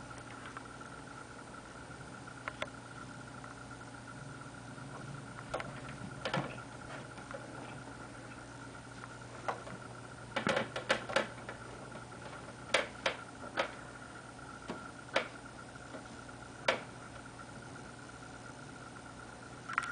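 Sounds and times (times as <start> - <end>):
faint electrical hum: 0.0 - 19.9.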